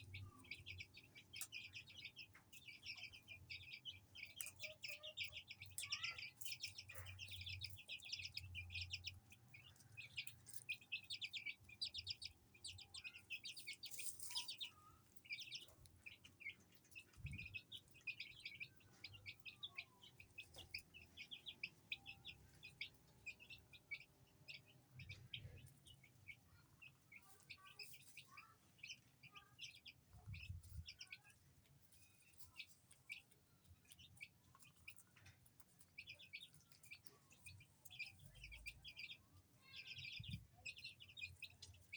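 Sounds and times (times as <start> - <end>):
baby chicks peeping: 0.0 - 41.9.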